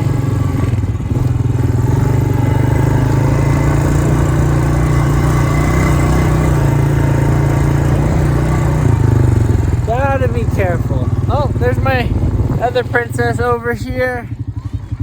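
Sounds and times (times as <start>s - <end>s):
atv engine running steadily: 0.0s - 15.0s.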